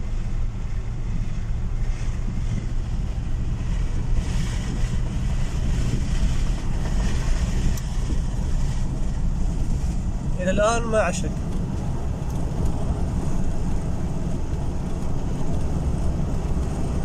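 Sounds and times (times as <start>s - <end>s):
truck engine and road drone: 0.0s - 17.0s.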